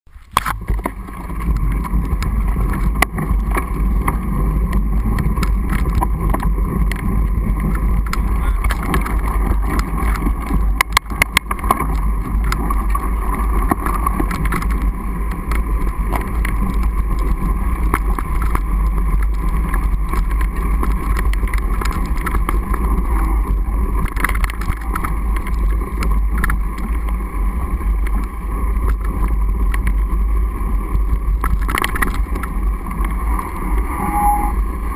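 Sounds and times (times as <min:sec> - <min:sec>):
wind and tire rumble: 0:00.1 - 0:34.9
bike clicks and knocks: 0:00.2 - 0:23.0, 0:23.9 - 0:27.2, 0:31.4 - 0:33.5.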